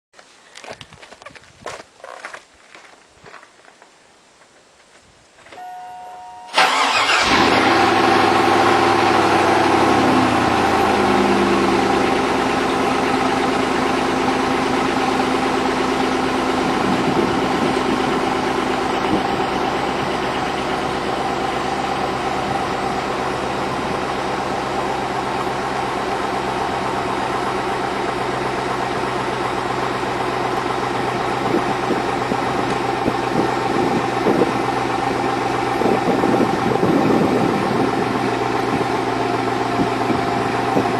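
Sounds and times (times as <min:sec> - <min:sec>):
car engine idling: 0:05.9 - 0:40.9.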